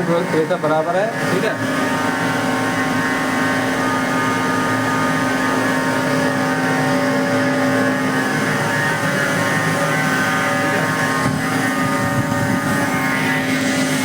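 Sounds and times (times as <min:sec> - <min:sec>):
hydraulic pump hum-whine: 0:00.0 - 0:14.0.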